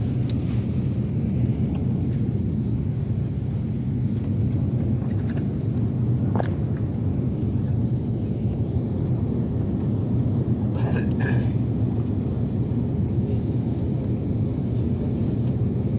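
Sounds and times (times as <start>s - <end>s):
airliner cabin engine rumble: 0.0s - 15.9s.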